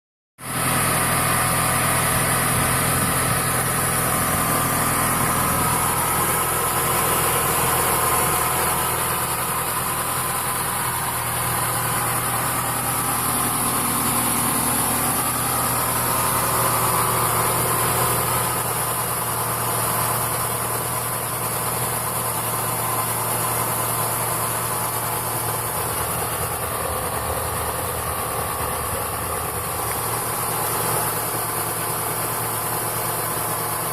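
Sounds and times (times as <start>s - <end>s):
car engine idling: 0.4s - 33.9s.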